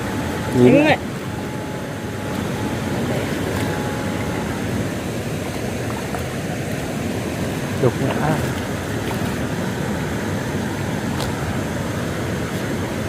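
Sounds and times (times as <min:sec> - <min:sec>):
faint thin whine: 0:00.0 - 0:13.0
stream water rushing: 0:00.0 - 0:13.0.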